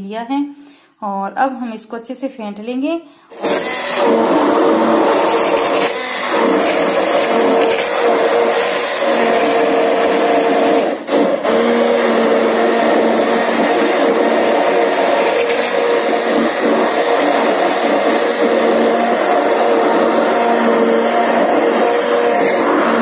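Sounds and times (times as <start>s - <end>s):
hand blender motor running: 3.3s - 23.0s.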